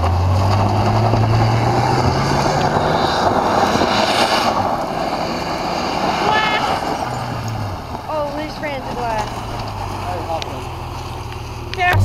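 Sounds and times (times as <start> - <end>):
engine pulling under load: 0.0 - 12.0.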